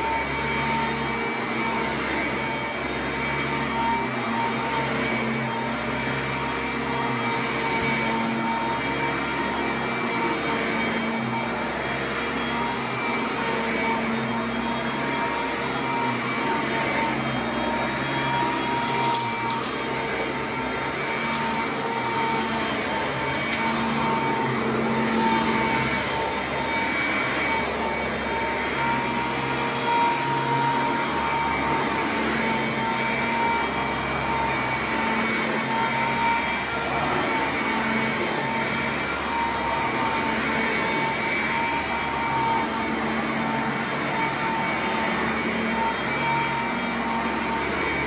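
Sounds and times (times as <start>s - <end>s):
upright vacuum cleaner running: 0.0s - 48.0s.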